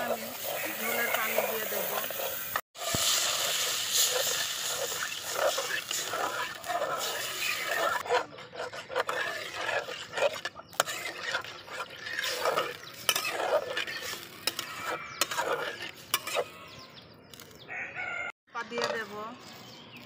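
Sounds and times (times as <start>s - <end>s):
curry simmering: 0.0s - 16.6s
metal spatula scraping pan: 0.0s - 16.9s.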